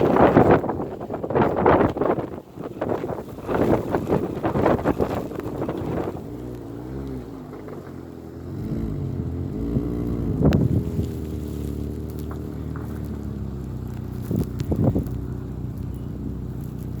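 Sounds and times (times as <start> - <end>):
wind gusting on microphone: 0.0 - 7.3, 8.6 - 17.0
car engine revving: 0.0 - 17.0.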